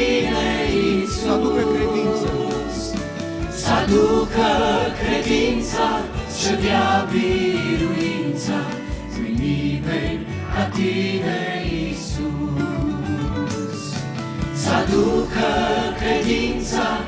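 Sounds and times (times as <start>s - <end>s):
low steady accompaniment: 0.0s - 17.0s
mixed vocal group singing in harmony: 0.0s - 17.0s.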